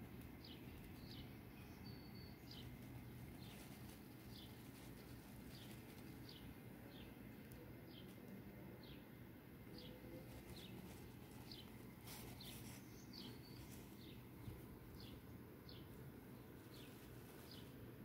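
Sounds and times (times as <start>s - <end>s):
faint room hum: 0.0s - 18.0s
small bird chirping: 0.0s - 18.0s.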